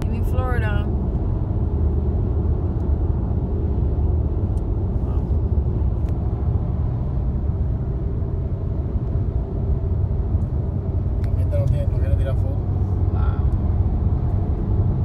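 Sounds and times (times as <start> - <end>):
car driving at highway speed: 0.0 - 15.0.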